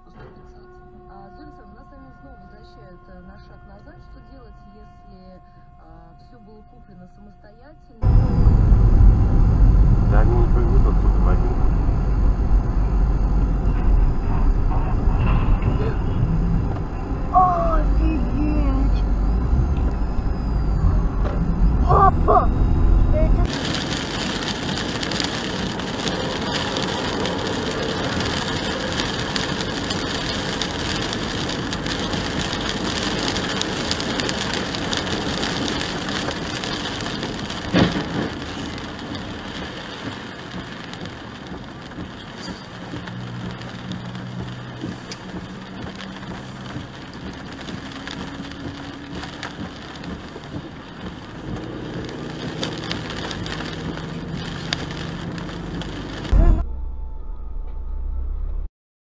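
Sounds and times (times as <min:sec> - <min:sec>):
rain on windshield: 0:08.0 - 0:56.6
tyres on wet road: 0:08.0 - 0:56.6.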